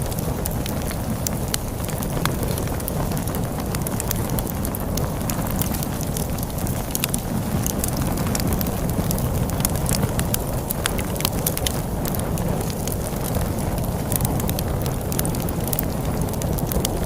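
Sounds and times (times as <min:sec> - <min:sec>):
crackling log fire: 0:00.0 - 0:17.0.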